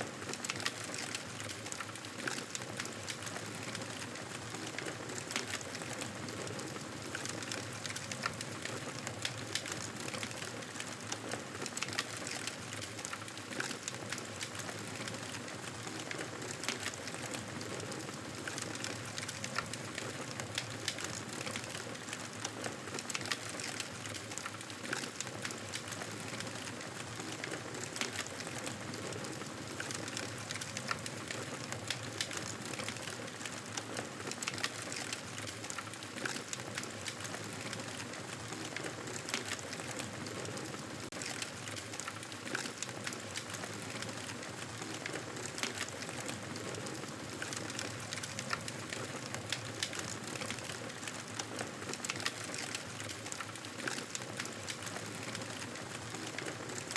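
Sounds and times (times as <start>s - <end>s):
campfire crackling and popping: 7.0s - 56.9s.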